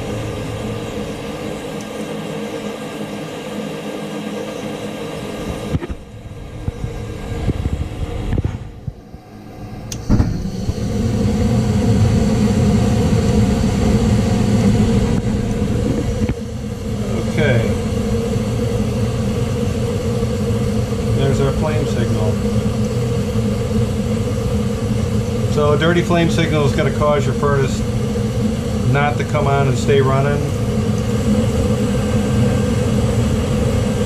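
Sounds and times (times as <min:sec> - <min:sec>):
burners rumbling: 0:00.0 - 0:34.0
furnace motor humming: 0:00.0 - 0:34.0.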